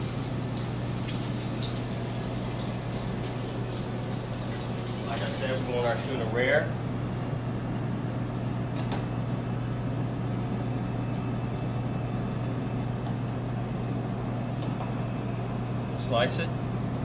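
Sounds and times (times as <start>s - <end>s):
kitchen ventilation humming: 0.0s - 17.0s.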